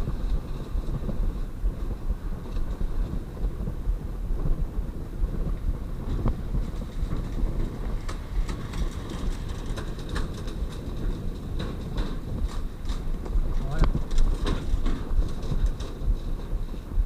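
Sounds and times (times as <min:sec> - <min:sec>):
wind and road noise rumble: 0:00.0 - 0:17.0.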